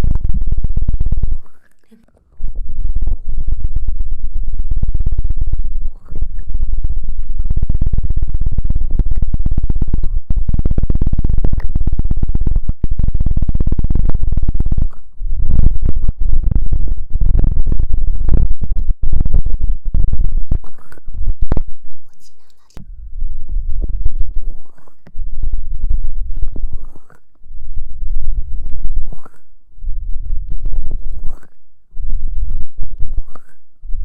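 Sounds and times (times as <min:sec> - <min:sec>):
scratching on microphone: 0:05.6 - 0:34.0.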